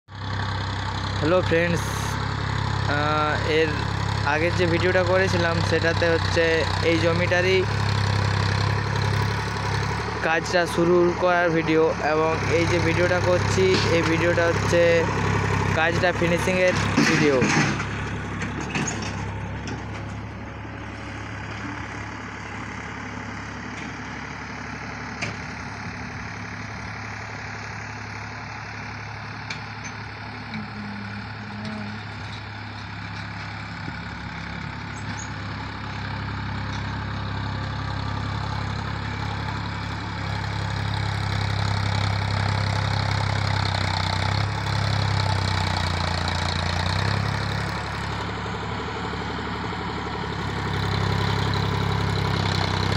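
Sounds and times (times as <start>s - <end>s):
tractor diesel engine under load: 0.1s - 52.9s.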